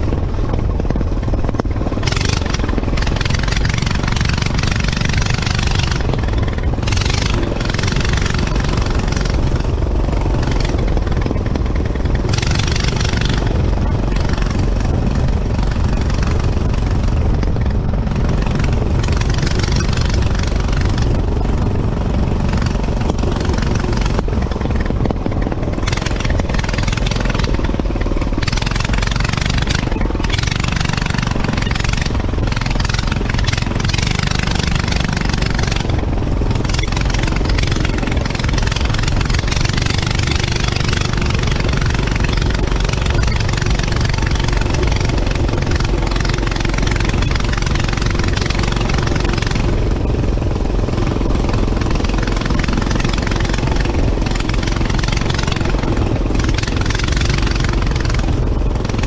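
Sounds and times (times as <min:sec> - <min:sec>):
go-kart engine running: 0:00.0 - 0:59.0
hissing wind noise: 0:00.0 - 0:59.0.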